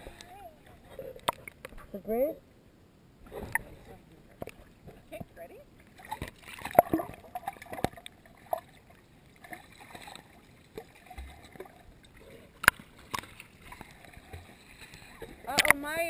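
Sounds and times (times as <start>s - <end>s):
underwater bubbling and sloshing: 0.0s - 16.0s.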